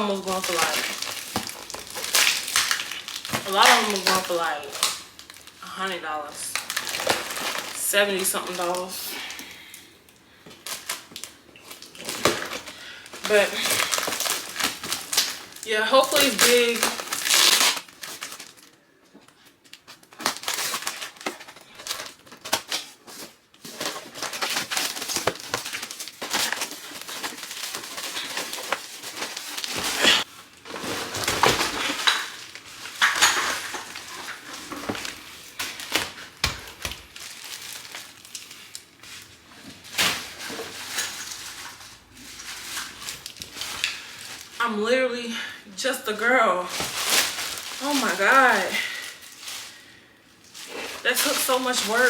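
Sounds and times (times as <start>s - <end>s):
packaging rustling and crinkling: 0.0s - 44.6s, 46.6s - 52.0s.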